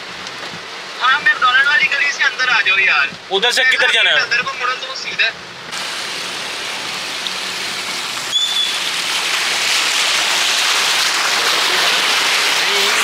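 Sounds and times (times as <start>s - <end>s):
car driving through flood water: 0.0s - 13.0s
heavy rain: 0.0s - 13.0s.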